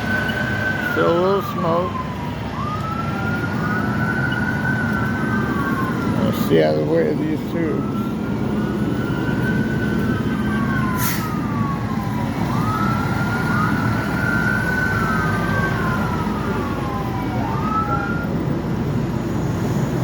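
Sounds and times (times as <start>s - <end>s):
emergency sirens wailing: 0.0s - 20.0s.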